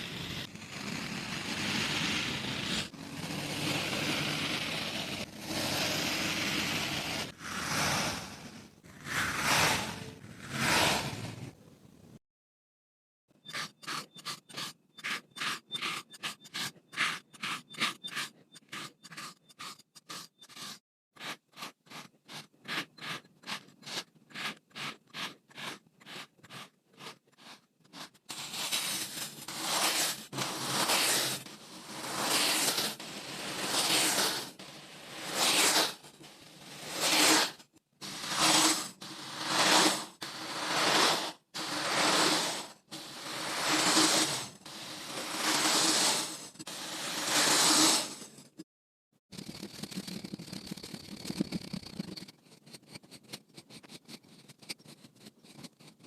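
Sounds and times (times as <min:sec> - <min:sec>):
blade scraping through sand: 0:00.0 - 0:11.6, 0:13.4 - 0:48.6.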